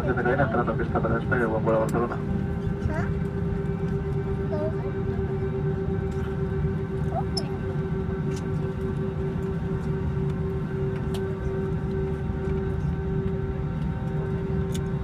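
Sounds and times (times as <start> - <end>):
jet engines whining at idle: 0.0 - 15.0
low cabin rumble: 0.0 - 15.0.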